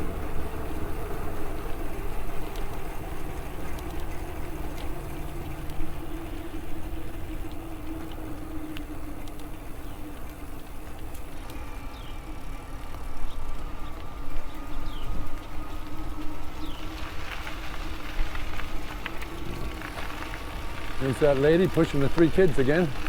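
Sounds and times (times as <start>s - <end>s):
electric bike hum: 0.0s - 23.0s
wind rumbling on microphone: 0.0s - 23.0s.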